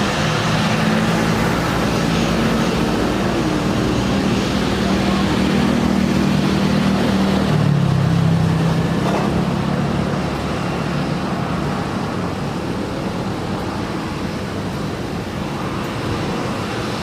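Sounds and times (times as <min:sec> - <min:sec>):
jet airliner passing: 0:00.0 - 0:17.0.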